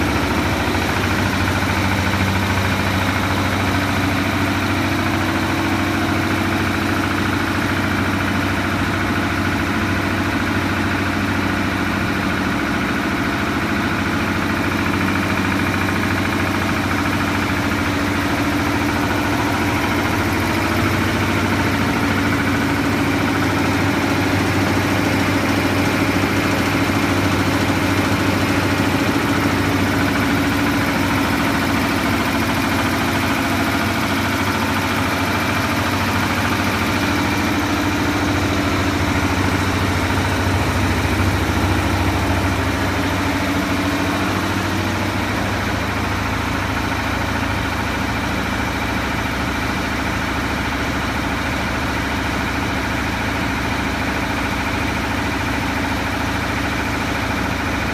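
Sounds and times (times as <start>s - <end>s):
compressor humming: 0.0s - 57.9s.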